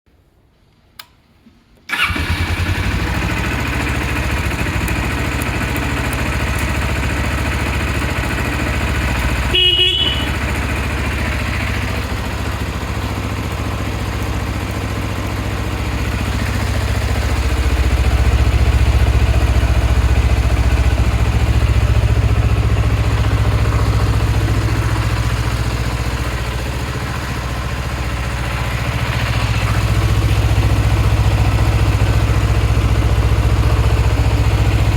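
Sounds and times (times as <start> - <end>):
motorcycle engine starting and idling: 1.8 - 34.9.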